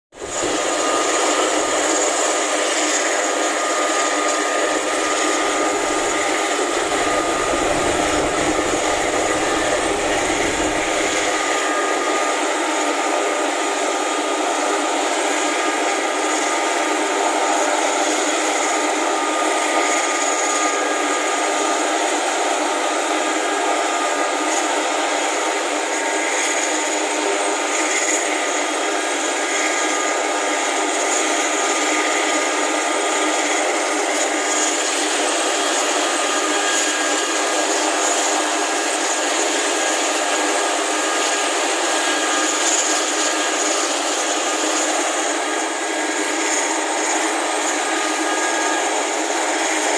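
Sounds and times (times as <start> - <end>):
helicopter turbine engines whining: 0.2 - 49.9.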